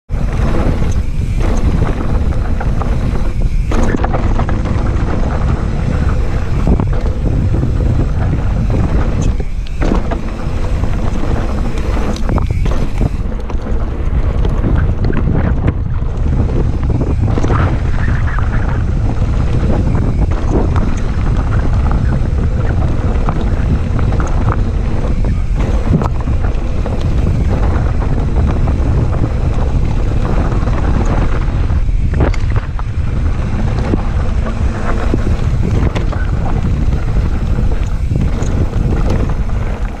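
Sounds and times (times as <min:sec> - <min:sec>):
wind buffeting the microphone: 0:00.0 - 0:40.0
bike clicks and rattles: 0:00.1 - 0:40.0
bike landing knocks: 0:00.1 - 0:40.0.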